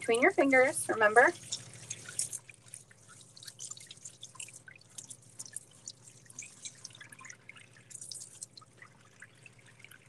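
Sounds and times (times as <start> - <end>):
water splashing from faucet: 0.0 - 10.0.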